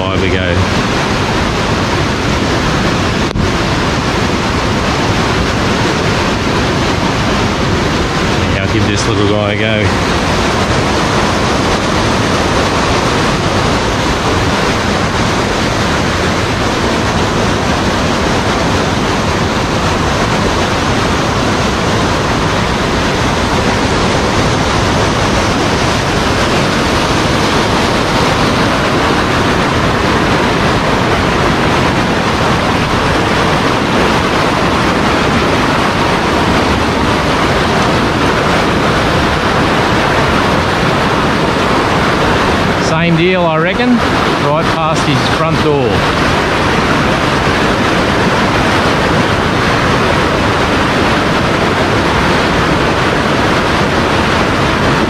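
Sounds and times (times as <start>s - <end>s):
creek water rushing over boulders: 0.0s - 55.0s.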